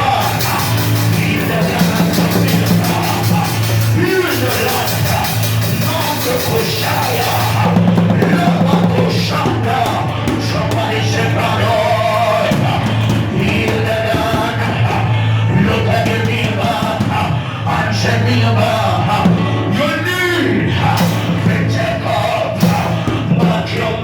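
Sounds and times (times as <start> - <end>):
band playing: 0.0 - 24.0
bass line: 0.0 - 24.0
drums: 0.0 - 24.0
voices singing: 0.0 - 24.0.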